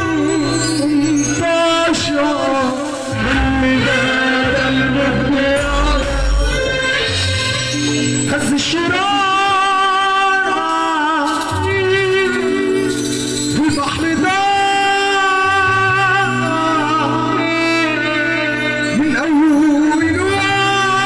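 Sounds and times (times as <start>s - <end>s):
man singing ornamented phrases: 0.0s - 7.1s, 8.2s - 21.0s
amplified keyboard: 0.0s - 21.0s.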